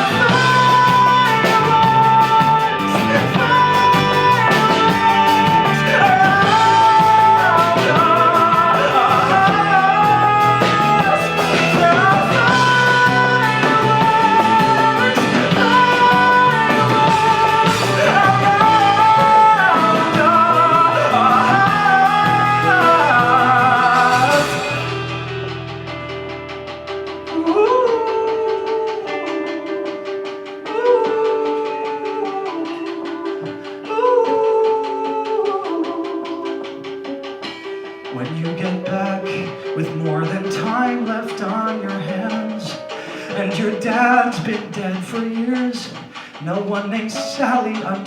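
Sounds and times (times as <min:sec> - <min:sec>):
live band playing rock ballad: 0:00.0 - 0:48.0
wordless high vocal melody: 0:00.0 - 0:48.0.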